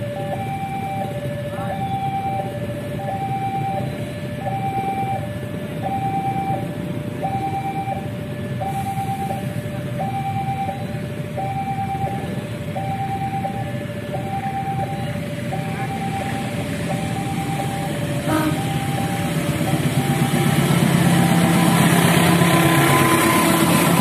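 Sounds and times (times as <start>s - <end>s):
two-tone crossing alarm chime: 0.0s - 21.8s
diesel locomotive rumble: 0.0s - 24.0s.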